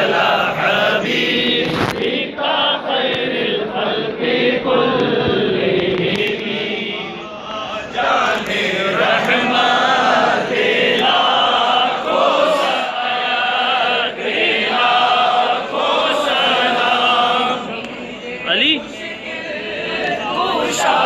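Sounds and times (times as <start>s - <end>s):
crowd of men chanting: 0.0s - 21.0s.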